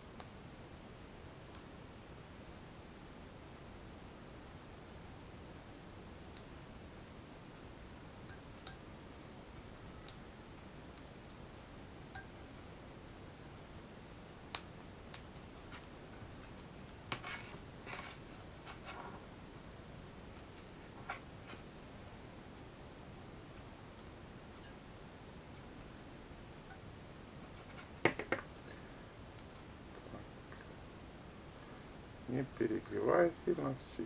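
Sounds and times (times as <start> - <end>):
faint steady hiss: 0.0 - 34.0.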